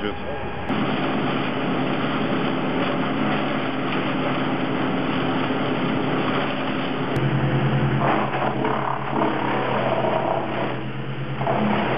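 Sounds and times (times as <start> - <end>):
machinery engine running: 0.0 - 11.9.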